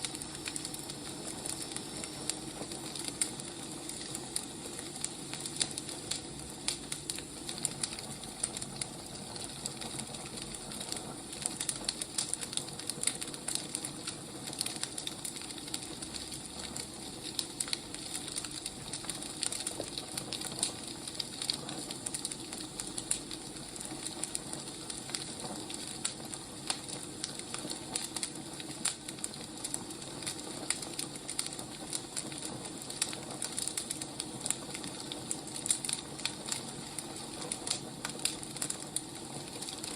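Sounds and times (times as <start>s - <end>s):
burning firewood crackling: 0.0s - 39.9s.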